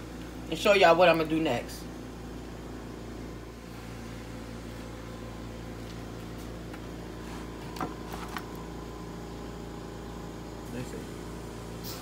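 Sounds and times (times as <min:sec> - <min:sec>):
appliance humming: 0:00.0 - 0:12.0.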